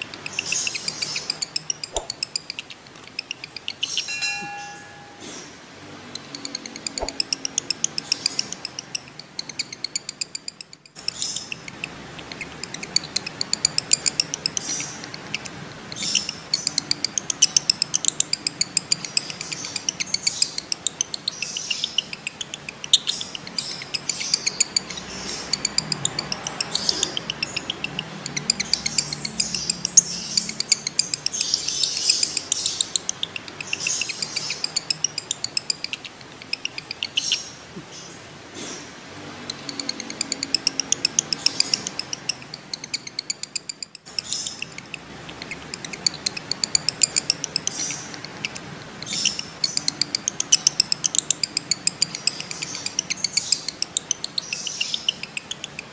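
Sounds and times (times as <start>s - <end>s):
lovebird chattering trills: 0.0s - 38.1s, 39.3s - 55.9s.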